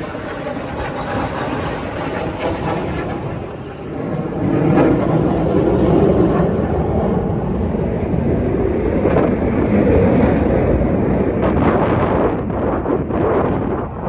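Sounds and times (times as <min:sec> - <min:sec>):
jets flying past: 0:00.0 - 0:14.0.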